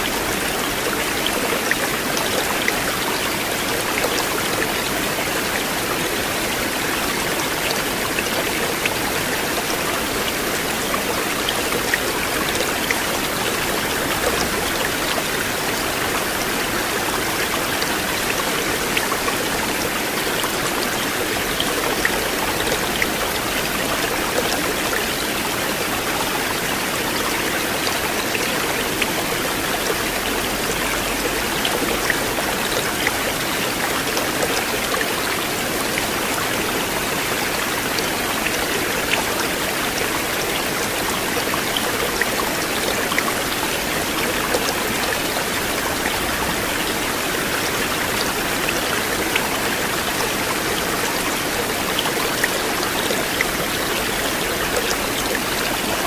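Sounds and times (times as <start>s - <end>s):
river water rushing: 0.0s - 56.0s
water splashes and drips: 0.0s - 56.0s.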